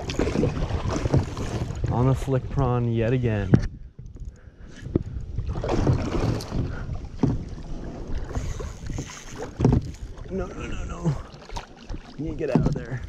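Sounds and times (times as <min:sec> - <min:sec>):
water splashing around kayak: 0:00.0 - 0:13.0
wind rumbling on microphone: 0:00.0 - 0:13.0.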